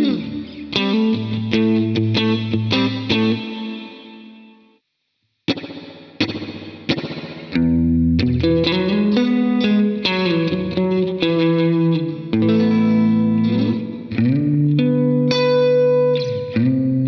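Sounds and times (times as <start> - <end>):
electric guitar with reverb: 0.0 - 4.8, 5.5 - 17.0.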